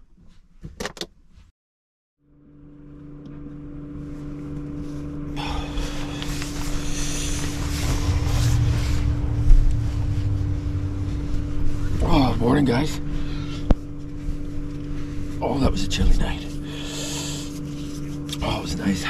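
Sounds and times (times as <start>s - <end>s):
electric fan motor hum: 2.3s - 19.0s.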